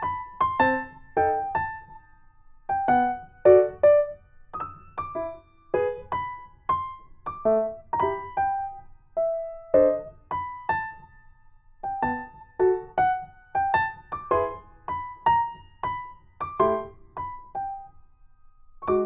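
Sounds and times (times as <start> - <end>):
gentle electric piano notes: 0.0 - 2.0, 2.7 - 11.2, 11.8 - 17.9, 18.8 - 19.0.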